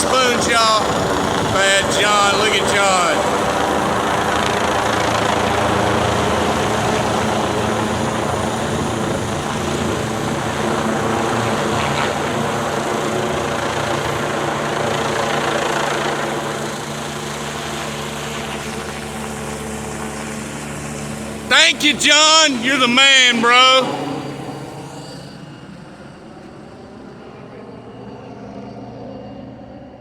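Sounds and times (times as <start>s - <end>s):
helicopter rotor drone: 0.0s - 30.0s.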